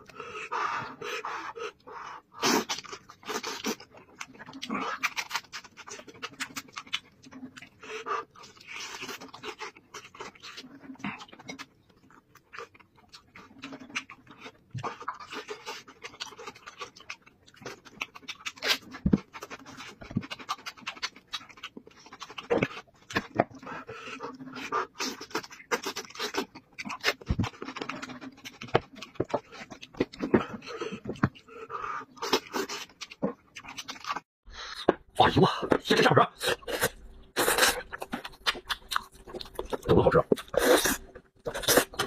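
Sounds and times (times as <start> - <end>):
man chewing with wet smacks: 0.0 - 42.0.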